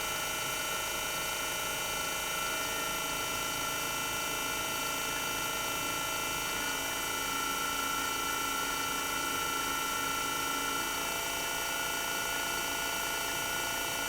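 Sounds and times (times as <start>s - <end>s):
compressor hum with inverter whine: 0.0s - 14.0s.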